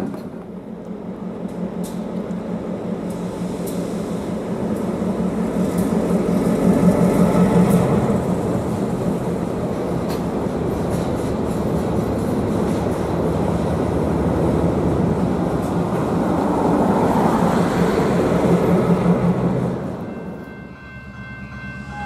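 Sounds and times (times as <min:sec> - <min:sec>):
diesel locomotive engine hum: 0:00.0 - 0:22.0
train cars rumbling over rails: 0:00.0 - 0:22.0.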